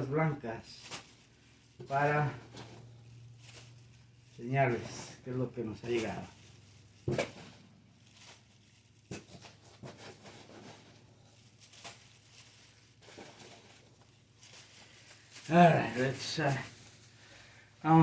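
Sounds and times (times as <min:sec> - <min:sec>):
packaging rustling and tearing: 0:00.6 - 0:18.0.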